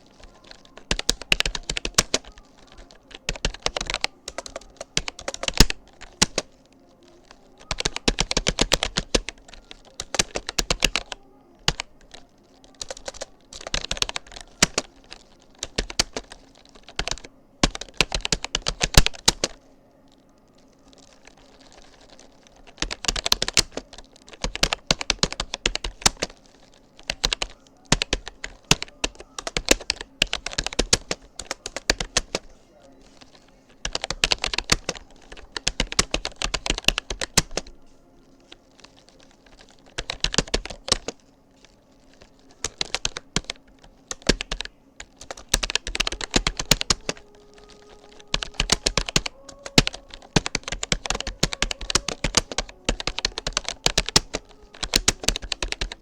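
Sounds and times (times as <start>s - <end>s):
keyboard key clicks: 0.2s - 6.6s, 7.2s - 19.6s, 20.9s - 26.4s, 27.0s - 32.5s, 33.2s - 37.7s, 38.6s - 41.2s, 42.2s - 56.0s.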